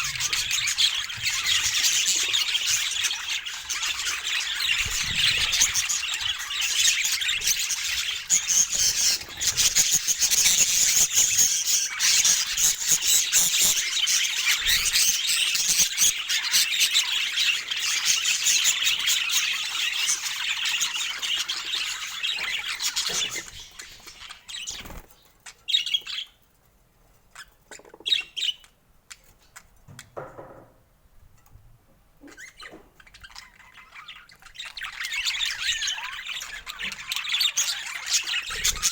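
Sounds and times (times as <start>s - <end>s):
budgerigars chattering and squawking: 0.0s - 26.4s, 27.3s - 29.7s, 32.2s - 38.9s.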